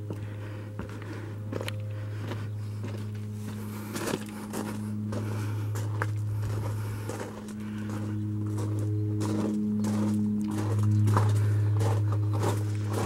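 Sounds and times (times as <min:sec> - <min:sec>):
footsteps crunching on gravel: 0:00.0 - 0:13.0
steady low hum: 0:00.0 - 0:13.0.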